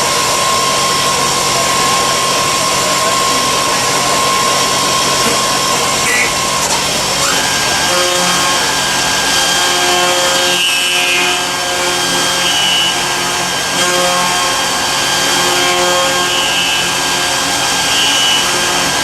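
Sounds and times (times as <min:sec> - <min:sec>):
high machine whine: 0:00.0 - 0:19.0
lathe cutting metal: 0:00.0 - 0:19.0.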